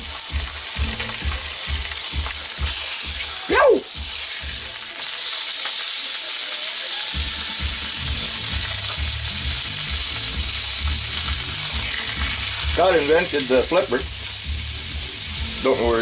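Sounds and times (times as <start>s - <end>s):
steak sizzling in a frying pan: 0.0s - 16.0s.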